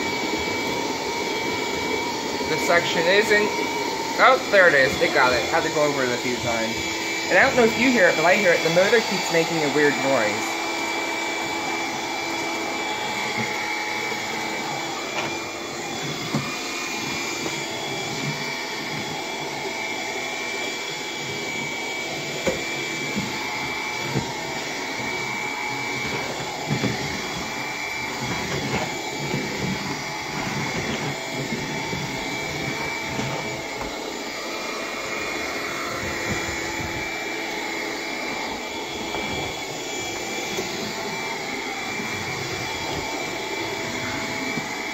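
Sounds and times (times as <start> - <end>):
stick vacuum motor humming: 0.0 - 44.9.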